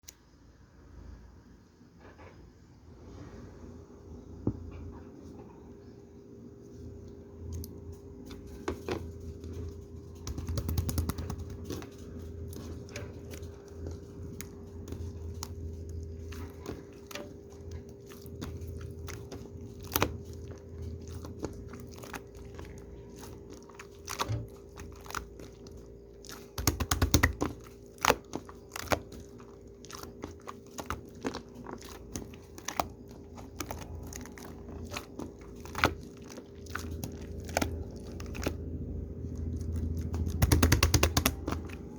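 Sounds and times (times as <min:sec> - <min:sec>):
steady low hum: 0:00.1 - 0:41.9
shaving foam wet crackles: 0:07.5 - 0:41.9.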